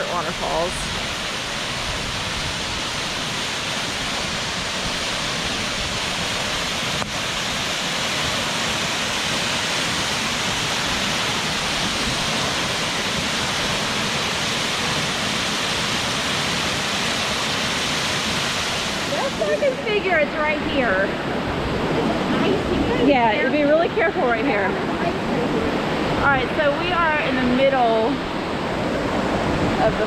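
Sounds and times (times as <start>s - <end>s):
waterfall rushing over rocks: 0.0s - 30.0s.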